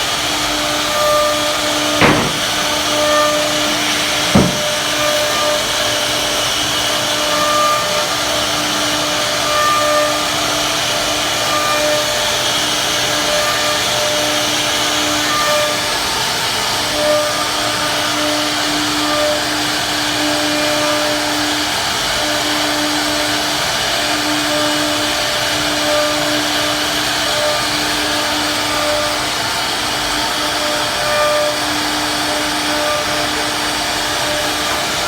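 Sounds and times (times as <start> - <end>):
router spindle whine: 0.0 - 35.0.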